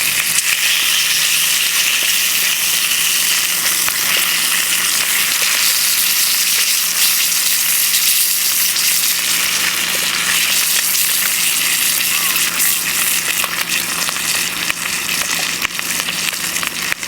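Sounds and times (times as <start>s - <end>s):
bacon and eggs sizzling: 0.0s - 17.0s
faint fire crackles: 0.0s - 17.0s.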